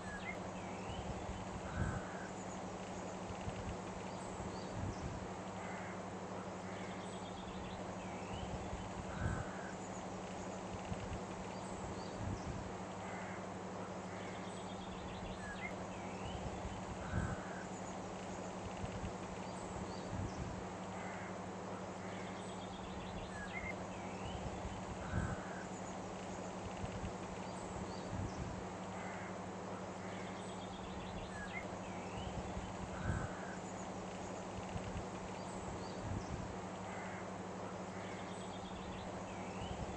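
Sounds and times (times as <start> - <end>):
steady hiss and low hum: 0.0 - 39.9.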